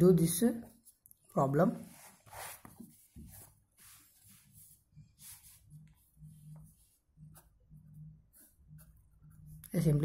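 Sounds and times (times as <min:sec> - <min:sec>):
hands and pen rustling on paper: 0:00.6 - 0:01.2, 0:01.8 - 0:10.0.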